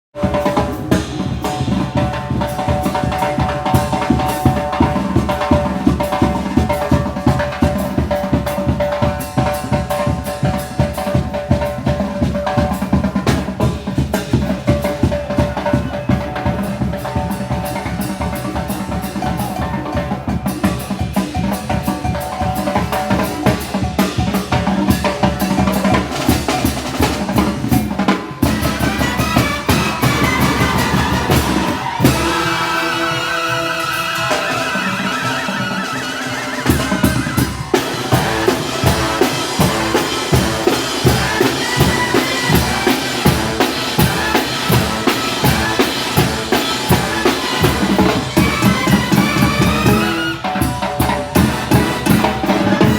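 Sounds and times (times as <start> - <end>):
brass band playing dance music: 0.1 - 52.9
bass drum and snare beat: 0.2 - 33.6, 36.6 - 52.9.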